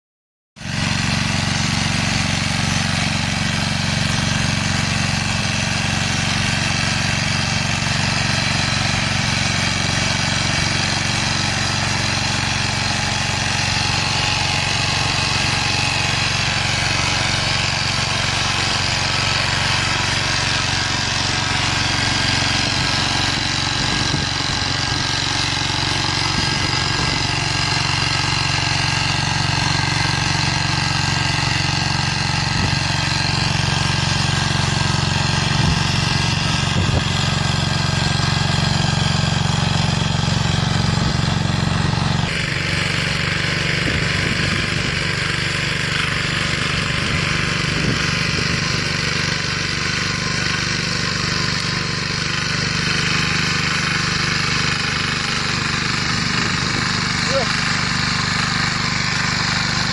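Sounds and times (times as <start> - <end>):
tiller engine running: 0.6 - 59.9.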